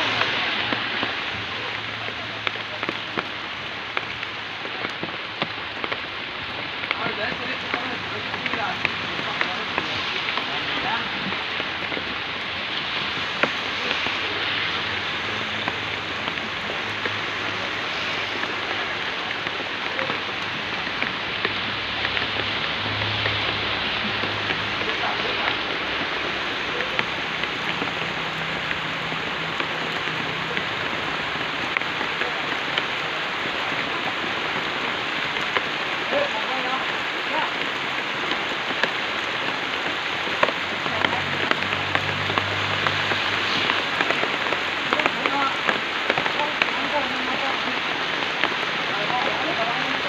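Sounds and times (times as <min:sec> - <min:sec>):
rain pattering: 0:00.0 - 0:50.0.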